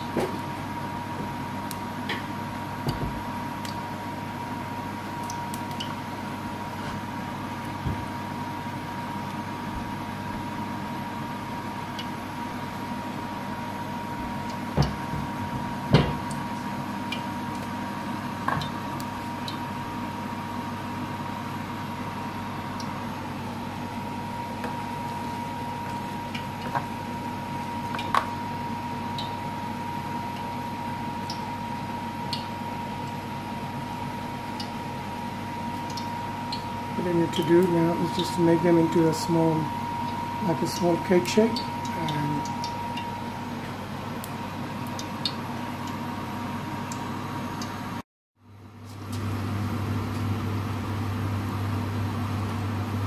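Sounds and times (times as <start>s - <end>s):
kitchen appliance hum with whine: 0.0s - 53.0s.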